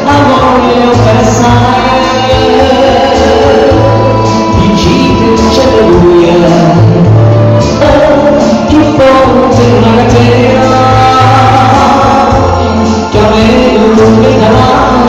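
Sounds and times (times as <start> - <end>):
man singing into a microphone: 0.0 - 15.0
recorded backing track: 0.0 - 15.0
steady bass line: 0.0 - 15.0.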